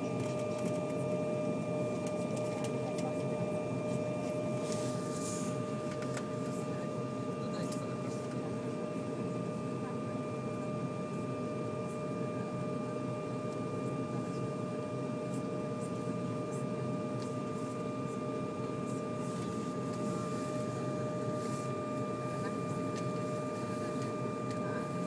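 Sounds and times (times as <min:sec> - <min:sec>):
airliner cabin hum and whine: 0:00.0 - 0:25.0.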